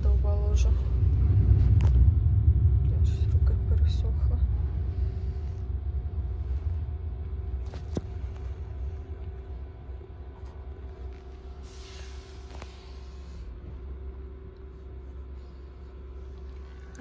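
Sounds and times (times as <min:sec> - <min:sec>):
faint steady hum: 0:00.0 - 0:17.0
train rumble inside carriage: 0:00.0 - 0:17.0.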